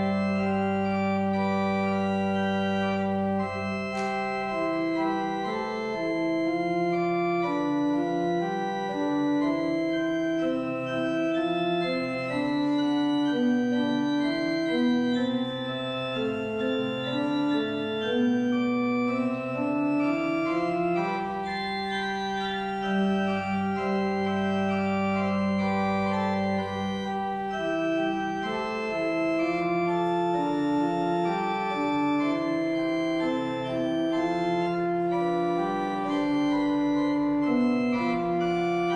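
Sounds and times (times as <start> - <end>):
low organ pedal note: 0.0 - 38.9
organ playing chords: 0.0 - 38.9.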